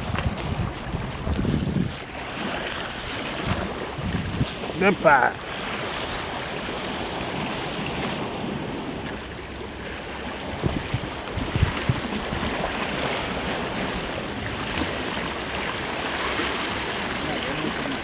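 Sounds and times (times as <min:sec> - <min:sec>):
wind buffeting microphone: 0:00.0 - 0:09.6, 0:10.2 - 0:18.0
waves breaking on rocks: 0:00.0 - 0:18.0.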